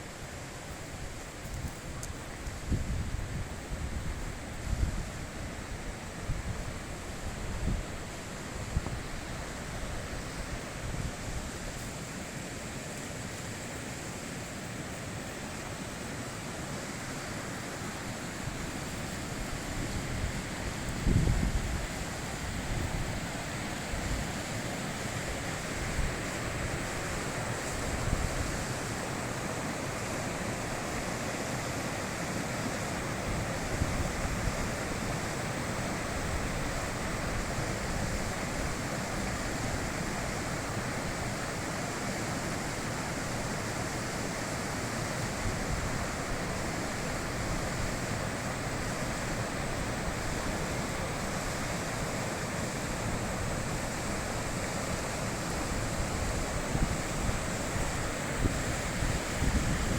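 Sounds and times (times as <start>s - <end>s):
river water rushing over stones: 0.0s - 59.9s.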